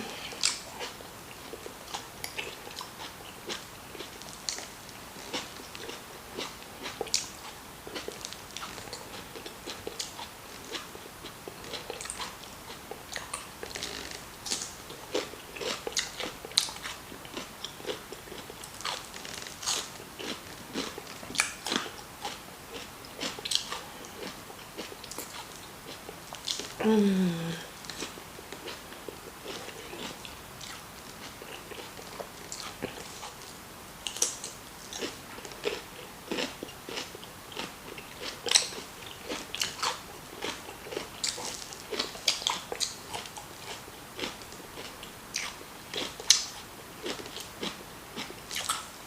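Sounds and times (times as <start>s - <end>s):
chewing and biting food: 0.0s - 26.8s, 27.8s - 49.0s.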